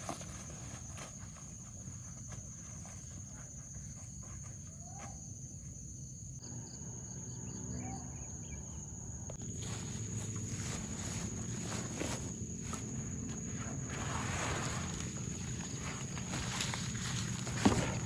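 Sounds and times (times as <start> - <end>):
soft footsteps: 0.0 - 5.8, 9.3 - 18.0
high-pitched insect trill: 0.0 - 18.0.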